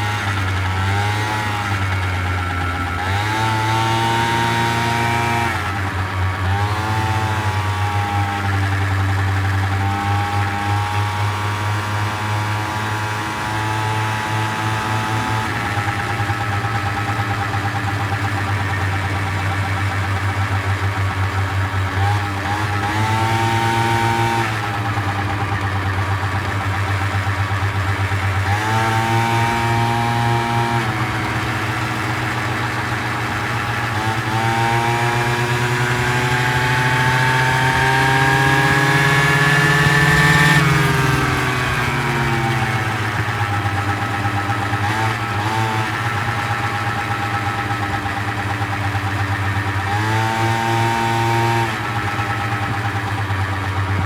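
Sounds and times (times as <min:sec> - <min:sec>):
motor scooter engine revving: 0:00.0 - 0:54.0.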